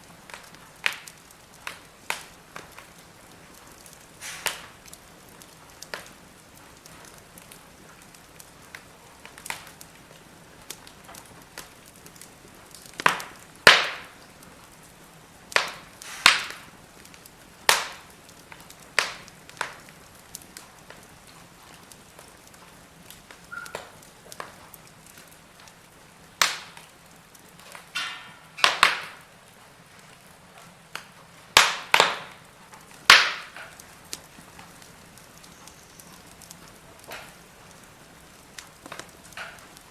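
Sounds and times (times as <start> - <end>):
fire hiss: 0.0 - 39.9
firewood crackles and pops: 0.0 - 39.9.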